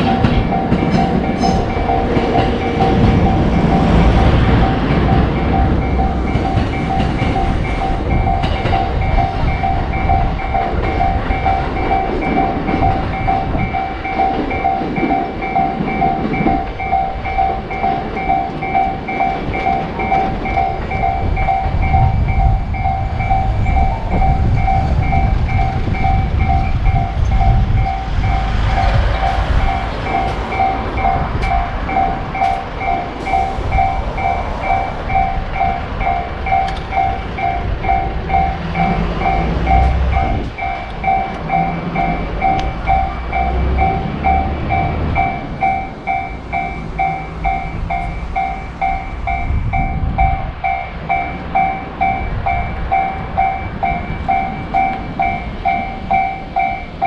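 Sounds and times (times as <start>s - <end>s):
railroad crossing warning bell: 0.0s - 57.0s
train clicks: 0.0s - 57.0s
train rumbling past: 0.0s - 57.0s.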